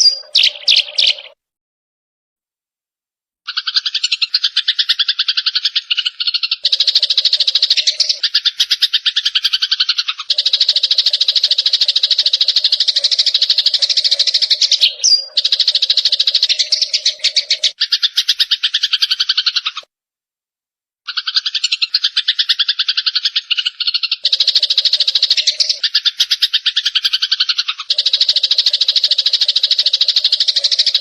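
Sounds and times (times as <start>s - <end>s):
bird rapid rattling trills: 0.0s - 1.4s, 3.5s - 19.9s, 21.1s - 31.0s
upswept bird chirp: 0.0s - 1.4s, 3.4s - 19.9s, 21.0s - 31.0s.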